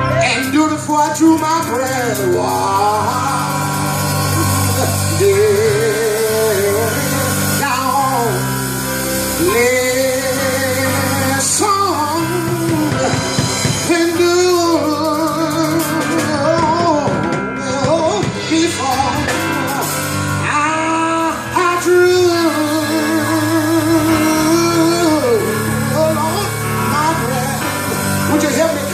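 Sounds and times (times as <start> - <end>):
instrumental accompaniment with bass: 0.0 - 28.9
person singing with vibrato: 0.0 - 28.9.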